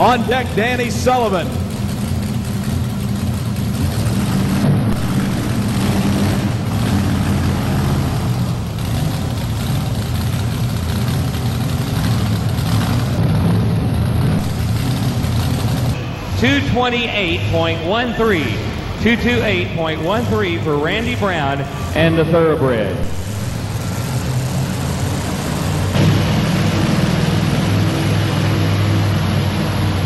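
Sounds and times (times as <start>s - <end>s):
supercharged truck engine running: 0.0s - 30.0s.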